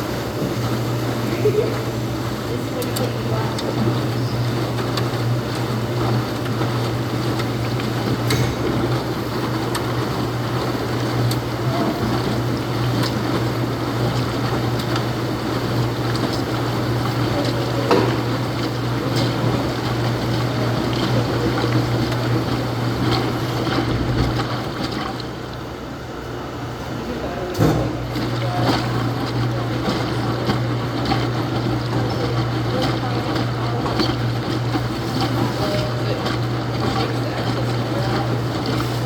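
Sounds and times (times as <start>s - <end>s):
laundry machines droning: 0.0s - 39.0s.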